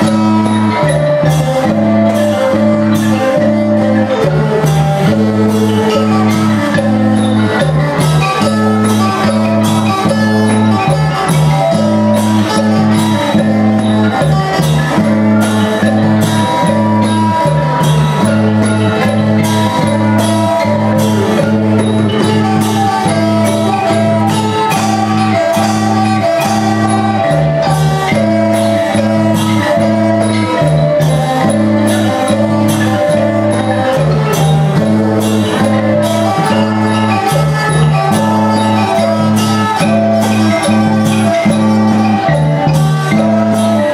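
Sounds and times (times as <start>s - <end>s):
live band playing folk music: 0.0s - 43.9s.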